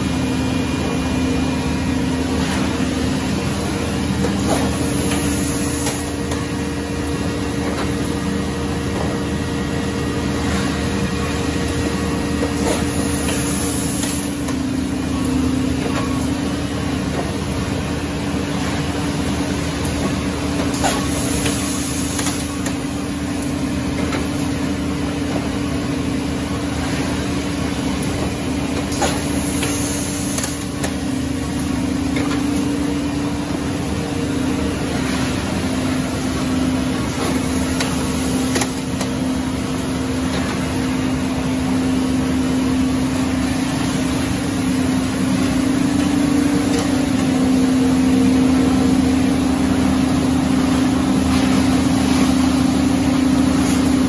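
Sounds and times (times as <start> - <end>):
factory machinery running: 0.0 - 54.0.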